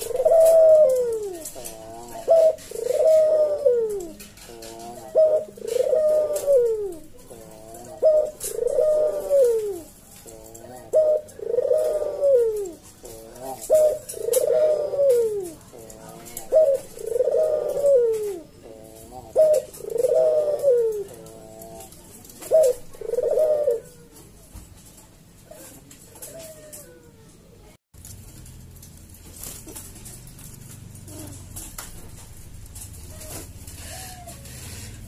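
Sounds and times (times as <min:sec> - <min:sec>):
dove cooing: 0:00.0 - 0:24.4, 0:25.4 - 0:27.4, 0:29.6 - 0:35.0.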